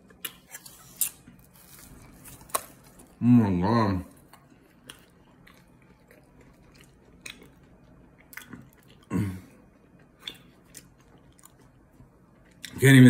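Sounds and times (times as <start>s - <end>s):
person chewing food: 0.0s - 3.2s, 4.0s - 12.8s.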